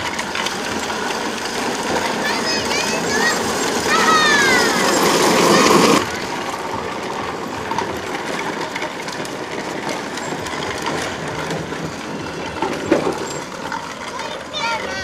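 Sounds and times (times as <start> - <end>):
plastic toy wheels rolling on asphalt: 0.0 - 15.0.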